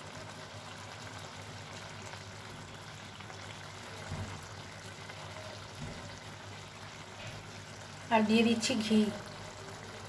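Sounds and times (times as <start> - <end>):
curry gravy simmering: 0.0 - 10.0.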